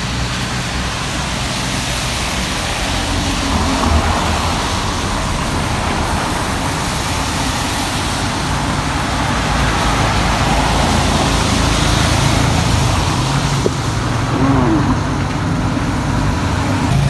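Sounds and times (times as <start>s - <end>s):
tyres hissing on wet road: 0.0s - 17.0s
vehicle engine humming: 0.0s - 17.0s.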